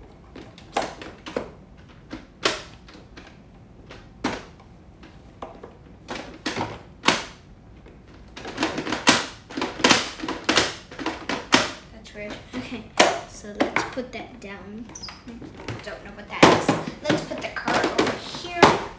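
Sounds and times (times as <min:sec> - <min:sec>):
clicks and knocks on plastic toy: 0:00.3 - 0:14.1, 0:14.9 - 0:18.9.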